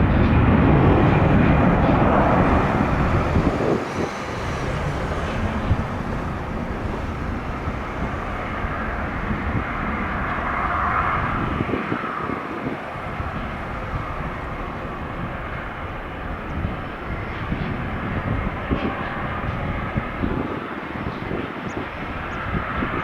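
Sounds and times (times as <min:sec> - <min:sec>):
jet engine rumble: 0:00.0 - 0:23.0.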